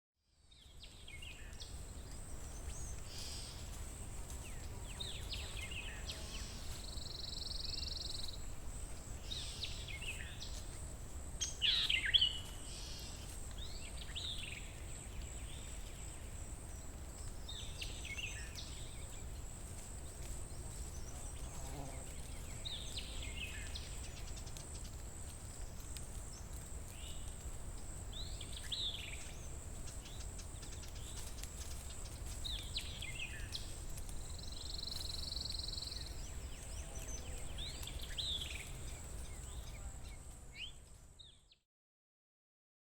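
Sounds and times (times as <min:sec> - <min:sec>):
wild birds calling and singing: 0:00.5 - 0:10.8, 0:11.4 - 0:41.6.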